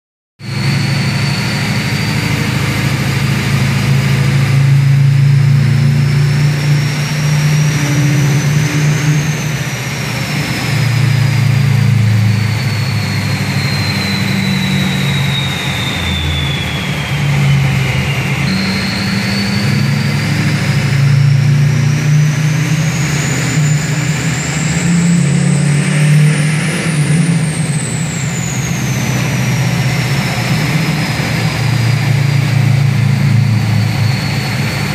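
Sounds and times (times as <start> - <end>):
diesel engine rumble: 0.4 - 34.9
turbo whistling: 0.4 - 34.9.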